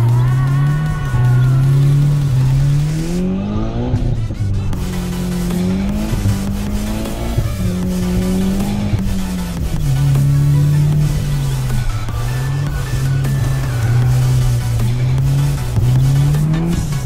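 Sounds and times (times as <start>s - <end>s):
car engine revving: 0.0s - 17.0s
music playing: 0.0s - 17.0s.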